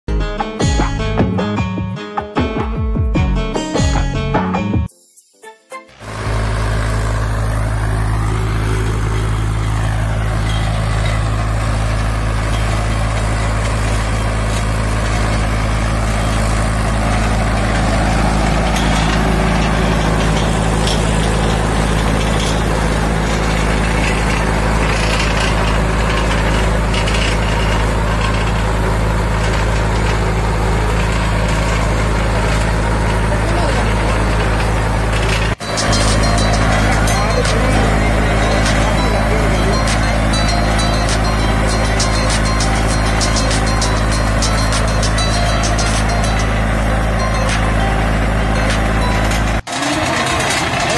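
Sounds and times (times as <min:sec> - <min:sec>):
tractor engine running: 0:00.1 - 0:04.9, 0:05.9 - 0:50.9.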